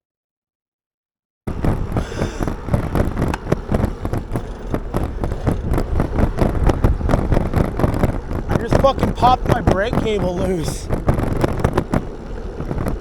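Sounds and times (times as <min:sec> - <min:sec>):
bike rattling and knocking: 0:01.5 - 0:13.0
wind buffeting microphone: 0:01.5 - 0:13.0.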